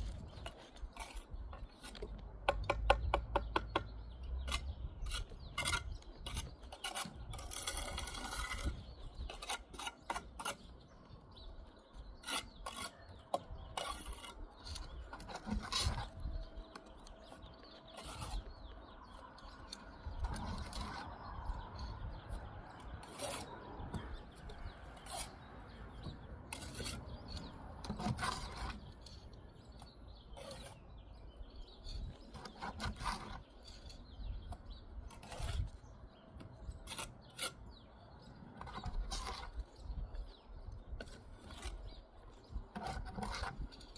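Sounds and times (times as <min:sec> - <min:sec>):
trowel scraping mortar: 0:00.0 - 0:43.9.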